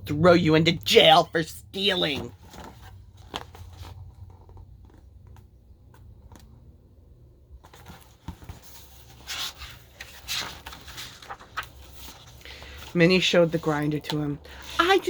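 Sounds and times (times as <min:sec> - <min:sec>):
book pages rustling: 0:01.8 - 0:06.8, 0:07.4 - 0:15.0.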